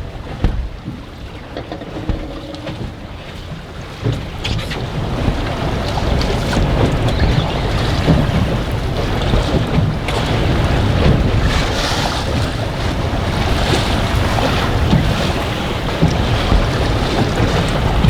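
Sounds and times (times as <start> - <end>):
waves splashing against hull: 0.0 - 18.0.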